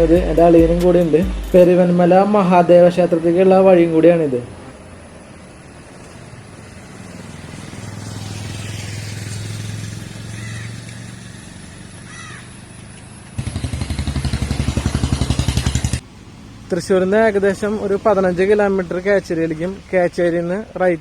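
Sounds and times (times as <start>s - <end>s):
bird calling: 0.0s - 7.6s, 8.2s - 21.0s
throbbing engine: 0.0s - 21.0s
vehicle passing with engine hum: 0.0s - 21.0s.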